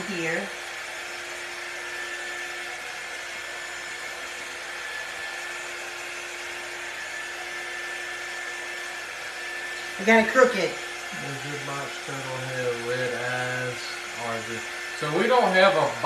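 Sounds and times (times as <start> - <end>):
small electric motor whirring: 0.0 - 16.0.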